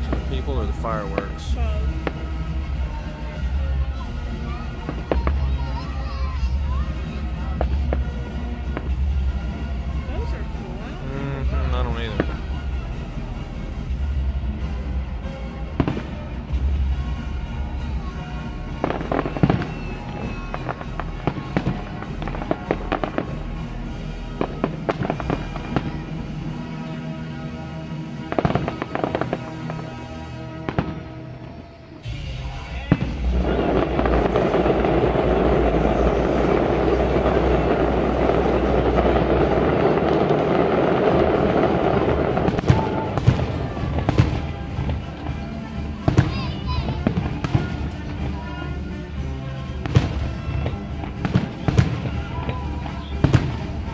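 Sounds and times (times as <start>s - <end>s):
fireworks bangs and pops: 0.0s - 53.9s
music playing: 0.0s - 53.9s.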